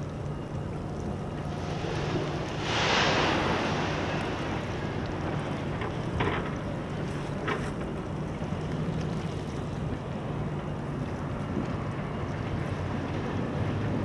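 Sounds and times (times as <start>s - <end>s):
low steady hum: 0.0s - 14.0s
small waves at shore: 0.0s - 14.0s.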